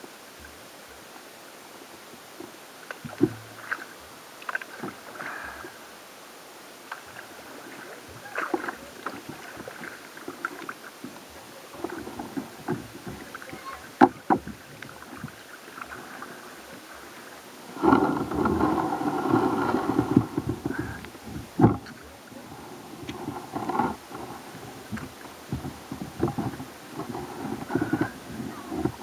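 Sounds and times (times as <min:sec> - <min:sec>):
paddle splashing water: 0:01.8 - 0:29.0.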